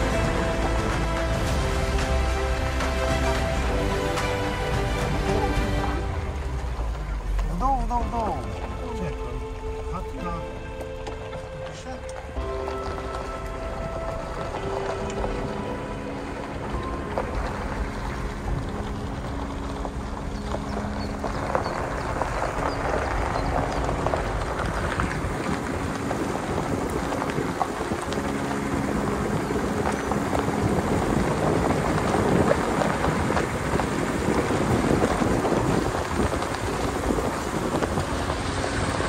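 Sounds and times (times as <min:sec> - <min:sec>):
off-road vehicle engine: 0:00.0 - 0:39.0
rumble of rough ride: 0:00.0 - 0:39.0
wind noise: 0:00.0 - 0:39.0.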